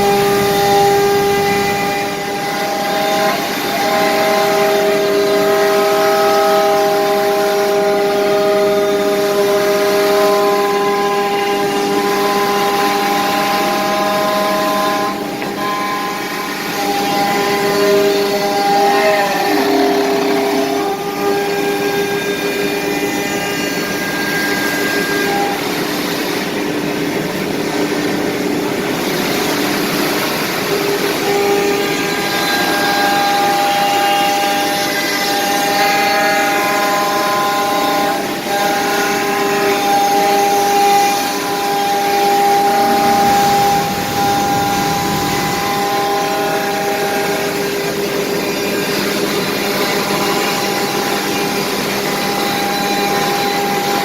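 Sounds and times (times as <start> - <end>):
router spindle whine cutting wood: 0.0 - 54.0.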